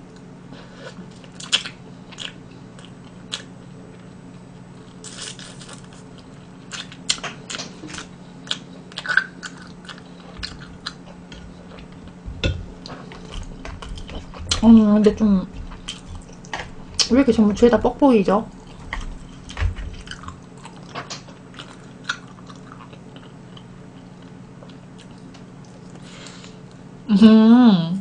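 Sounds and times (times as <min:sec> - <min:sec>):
faint steady hum: 0:00.0 - 0:28.0
person chewing food: 0:00.1 - 0:17.1, 0:18.5 - 0:26.8.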